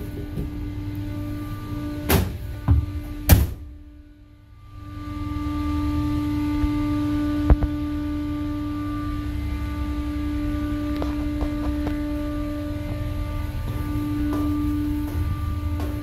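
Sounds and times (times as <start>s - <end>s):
engine room machinery humming: 0.0s - 16.0s.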